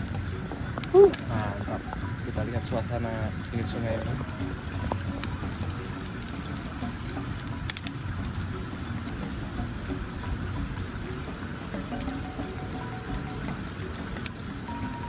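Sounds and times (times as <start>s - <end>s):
sharp crackles: 0.0s - 15.0s.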